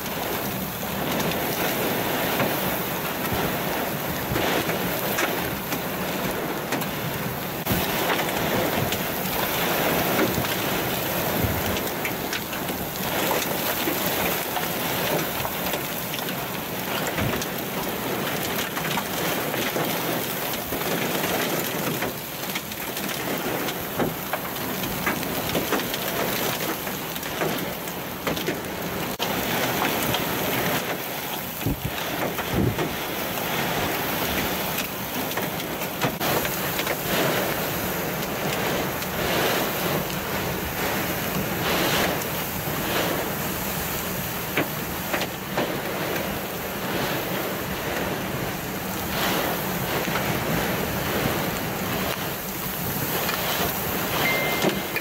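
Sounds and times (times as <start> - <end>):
heavy rain and hail: 0.0 - 55.0.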